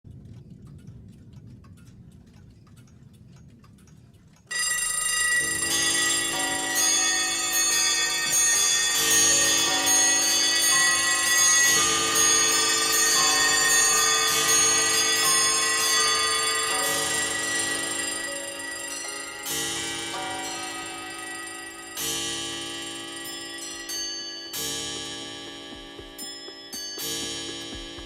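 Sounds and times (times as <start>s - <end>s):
clock ticking faintly: 0.1s - 28.0s
loud bell-like ringing tones: 4.5s - 28.0s.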